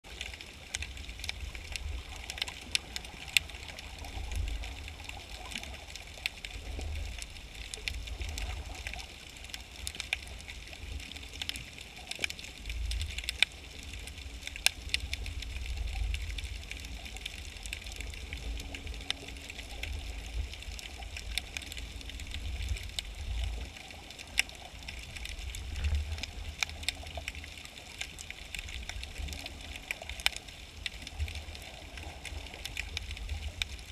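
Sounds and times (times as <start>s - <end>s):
crackle of sharp clicks: 0.1s - 33.9s
low underwater rumble: 0.1s - 33.9s.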